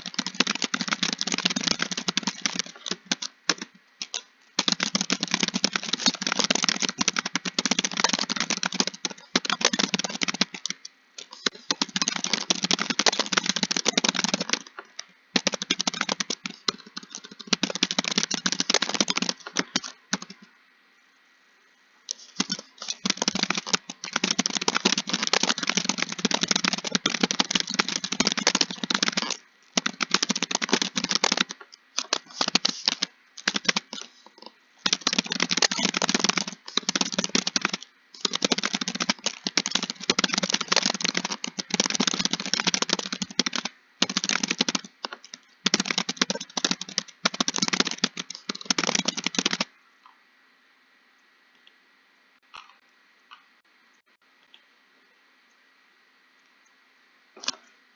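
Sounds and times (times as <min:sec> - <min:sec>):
computer keyboard typing: 0:00.0 - 0:20.5, 0:22.1 - 0:49.7.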